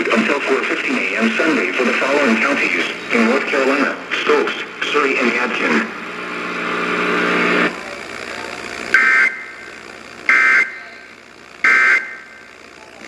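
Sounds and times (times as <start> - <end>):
steady buzzing tone: 0.0 - 13.0.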